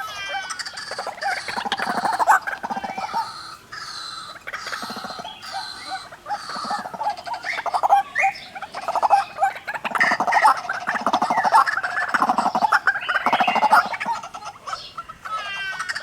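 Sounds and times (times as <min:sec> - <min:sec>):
waterhens calling: 0:00.0 - 0:16.0.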